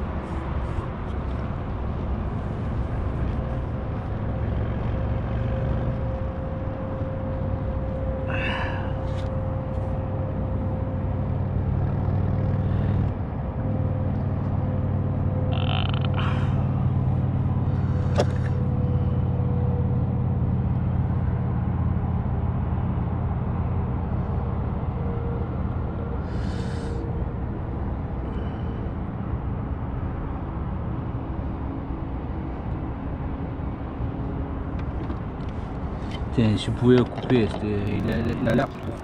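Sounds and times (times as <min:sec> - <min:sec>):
low engine-like hum: 0:00.0 - 0:39.0.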